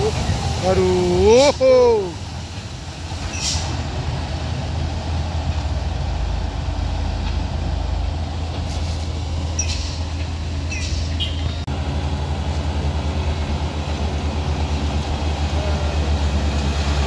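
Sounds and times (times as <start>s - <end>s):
large vehicle engine droning: 0.0s - 17.0s.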